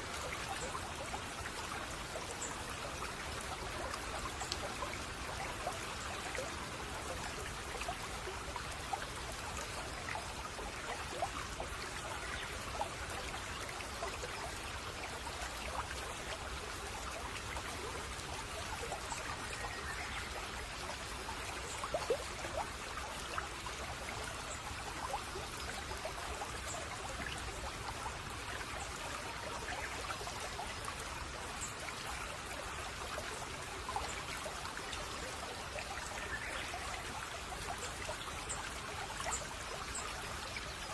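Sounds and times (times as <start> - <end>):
brook babbling: 0.0 - 40.9
water splashes and drips: 0.0 - 40.9.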